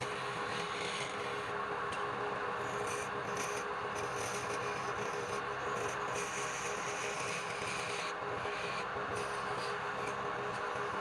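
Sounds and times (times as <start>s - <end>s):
tool scraping spinning workpiece: 0.0s - 1.5s, 2.7s - 11.0s
lathe motor hum: 0.0s - 11.0s.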